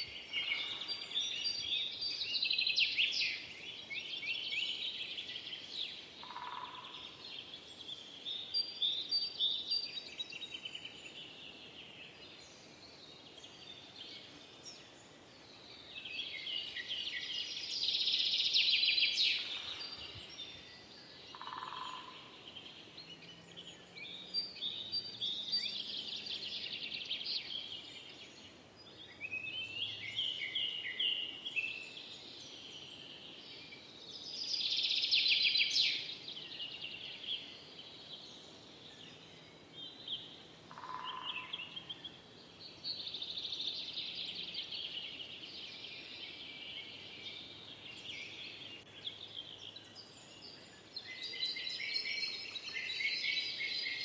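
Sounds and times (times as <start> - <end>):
forest birds chirping and trilling: 0.0 - 54.0.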